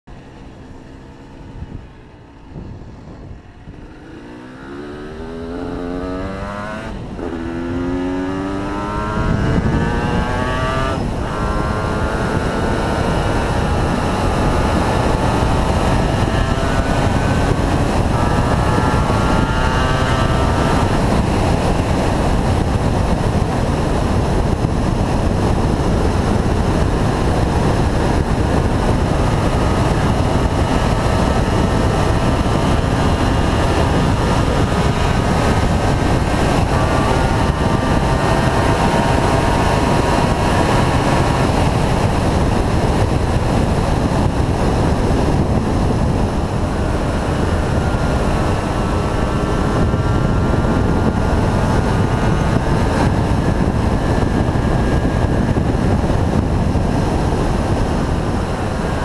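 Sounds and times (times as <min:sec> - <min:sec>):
motorcycle engine accelerating: 0:00.0 - 0:59.0
wind rush over microphone: 0:00.1 - 0:59.0.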